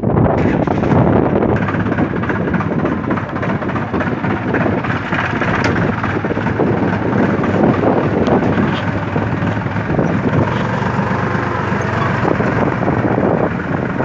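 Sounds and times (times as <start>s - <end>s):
wind buffeting microphone: 0.0s - 14.0s
tractor diesel engine running: 0.3s - 14.0s.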